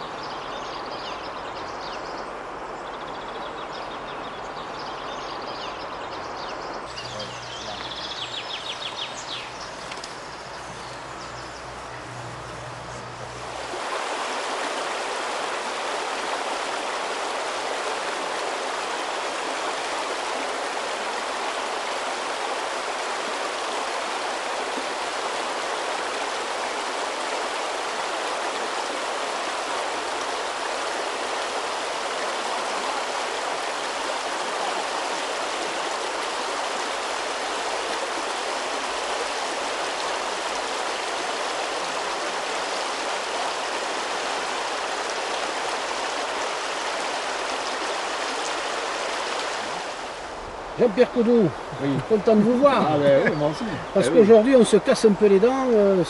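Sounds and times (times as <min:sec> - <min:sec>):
river water rushing over stones: 0:06.8 - 0:56.0.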